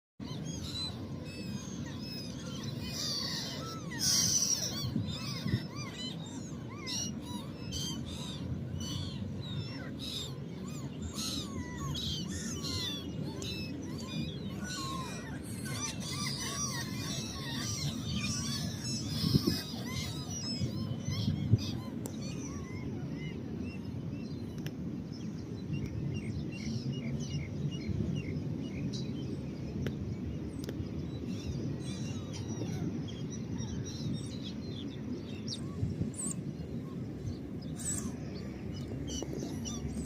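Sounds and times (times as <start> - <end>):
many birds chirping: 0.2 - 40.0.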